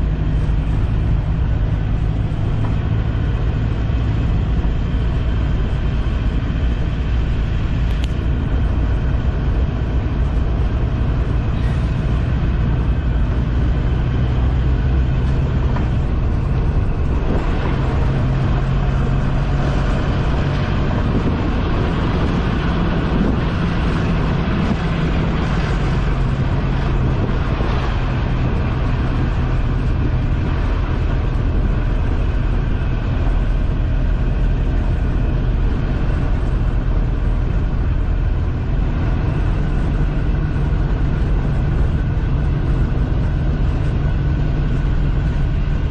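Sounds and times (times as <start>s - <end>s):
engine hum: 0.0s - 45.9s
road and wind noise: 0.0s - 45.9s.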